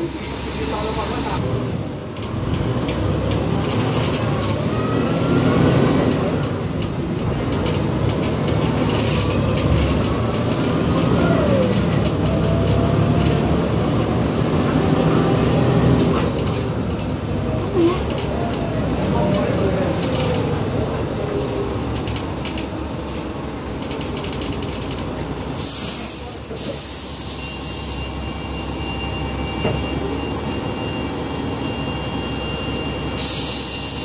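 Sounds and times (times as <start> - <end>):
bus diesel engine drone: 0.0 - 34.0
road noise: 0.0 - 34.0.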